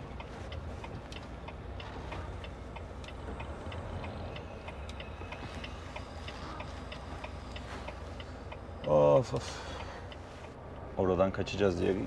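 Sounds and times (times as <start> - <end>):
truck engine rumble: 0.0 - 12.0
turn signal ticking: 0.0 - 12.0.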